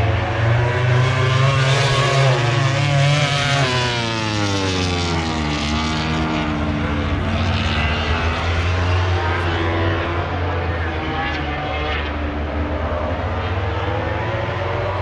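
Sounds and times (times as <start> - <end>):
racing motorcycle engines passing: 0.0 - 15.0
steady low drone: 0.0 - 15.0.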